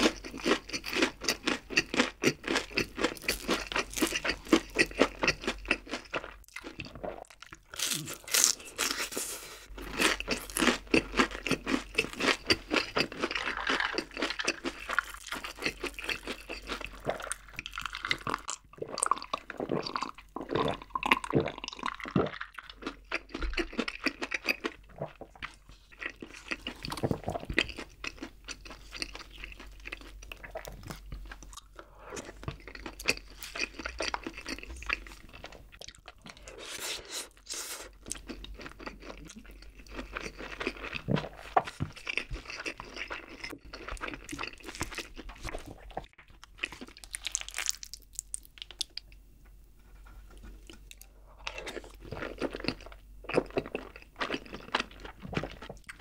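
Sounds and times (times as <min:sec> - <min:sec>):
person chewing and eating: 0:00.0 - 0:56.0.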